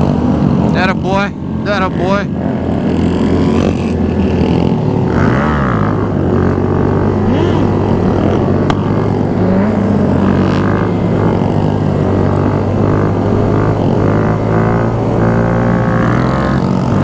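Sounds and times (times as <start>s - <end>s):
motorcycle engines droning: 0.0s - 17.0s
motorcycles revving: 0.0s - 17.0s.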